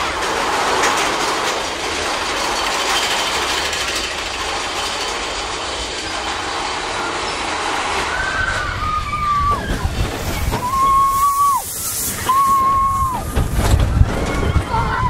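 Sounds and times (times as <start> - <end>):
roller coaster cars rattling: 0.0 - 15.0.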